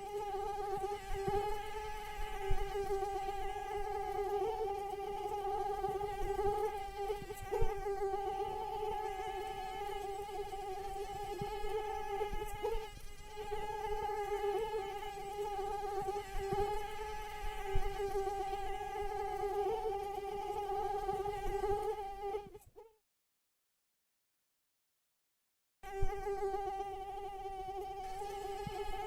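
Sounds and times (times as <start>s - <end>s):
mosquito wings whining: 0.0s - 22.9s, 25.9s - 29.0s.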